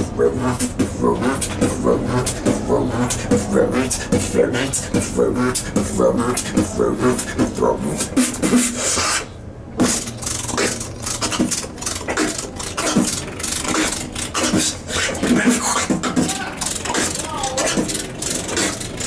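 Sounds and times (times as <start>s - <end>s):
beatboxing: 0.0s - 19.0s.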